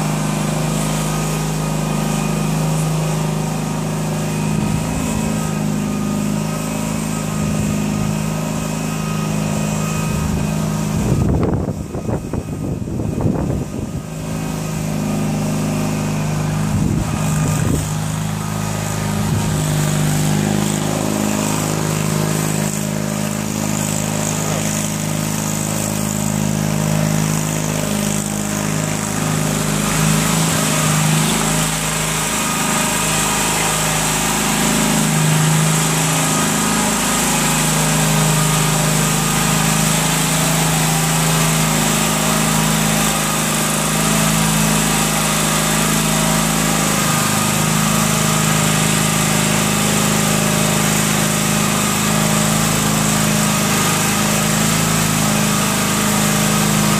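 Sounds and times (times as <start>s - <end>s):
aircraft tug engine running: 0.0s - 56.9s.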